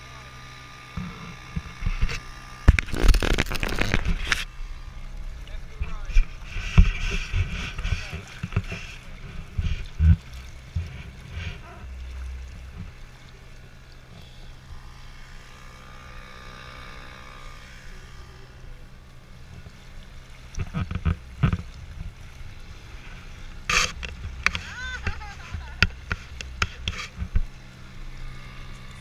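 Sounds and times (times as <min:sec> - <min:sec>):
small outboard motor running: 0:00.0 - 0:29.0
water along hulls: 0:00.0 - 0:29.0.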